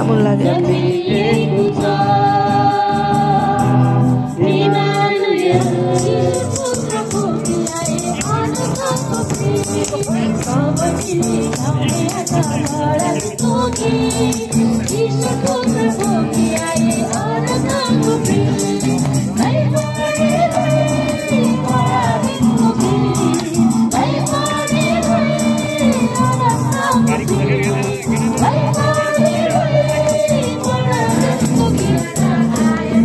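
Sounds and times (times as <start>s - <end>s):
group singing over music: 0.0s - 33.0s
rattling percussion: 0.0s - 33.0s.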